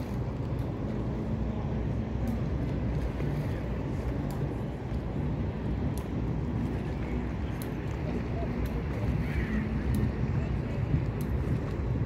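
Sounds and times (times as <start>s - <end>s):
boat engine hum: 0.0s - 12.0s
water washing along hull: 0.0s - 12.0s.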